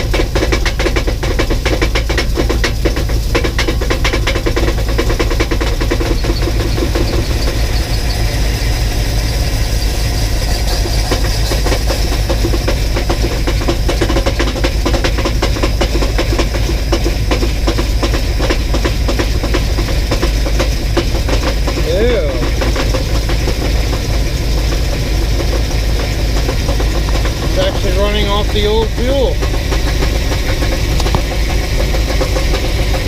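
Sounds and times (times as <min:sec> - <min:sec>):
engine knock: 0:00.0 - 0:33.0
truck engine idling: 0:00.0 - 0:33.0
fast even ticking: 0:00.1 - 0:33.0.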